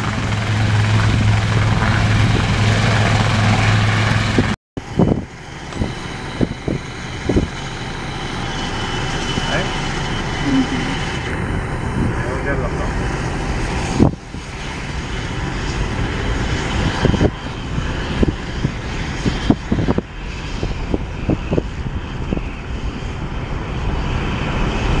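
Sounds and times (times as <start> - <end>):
helicopter turbine and rotor: 0.0 - 25.0.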